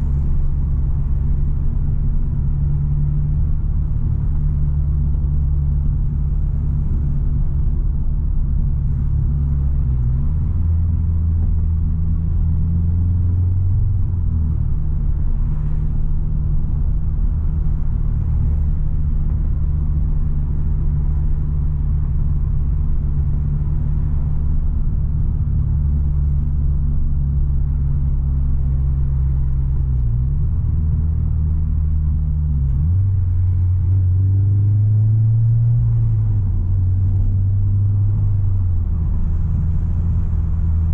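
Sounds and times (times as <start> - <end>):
car engine and exhaust drone: 0.0 - 40.9.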